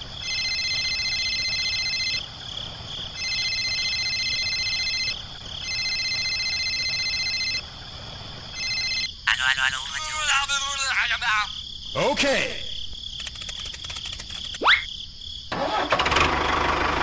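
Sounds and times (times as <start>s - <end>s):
high insect trill: 0.0s - 15.5s
insects chirping chorus: 0.0s - 15.8s.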